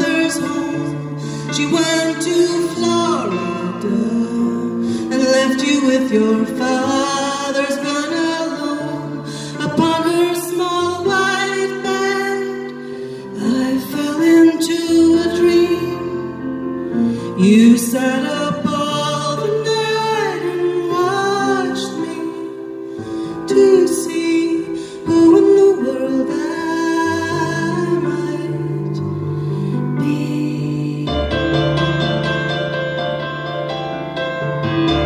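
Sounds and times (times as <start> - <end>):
woman singing: 0.0 - 16.6, 17.3 - 32.1
piano chords: 0.0 - 35.0.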